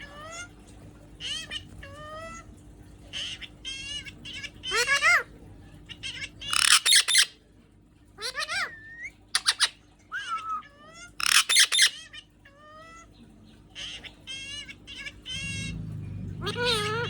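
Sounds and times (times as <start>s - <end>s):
low steady hum: 0.0s - 17.0s
parrot squawking and calling: 1.2s - 7.4s, 8.2s - 17.0s.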